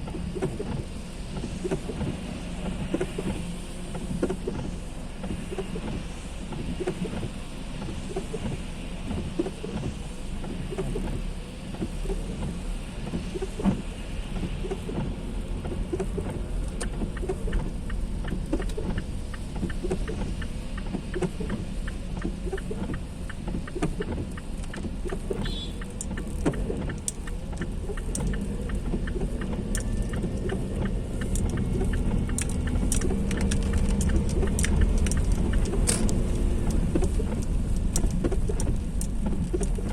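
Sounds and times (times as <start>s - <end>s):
car engine rumble: 0.0s - 39.9s
heavy rain hitting a car: 0.0s - 39.9s
road noise: 0.0s - 39.9s.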